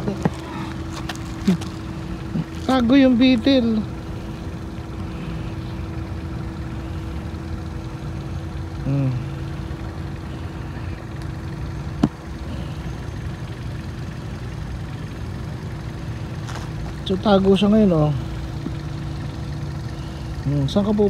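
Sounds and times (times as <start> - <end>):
constant hum: 0.0 - 21.0
low mechanical rumble: 0.0 - 21.0.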